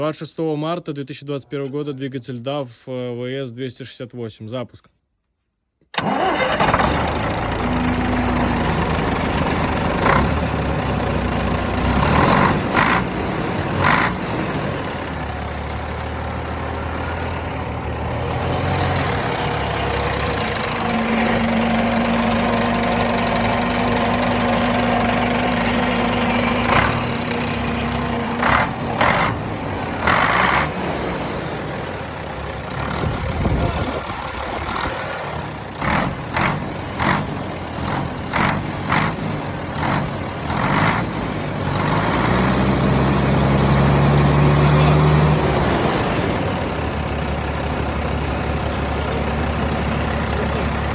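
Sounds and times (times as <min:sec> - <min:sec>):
diesel engine idling: 0:06.0 - 0:50.9.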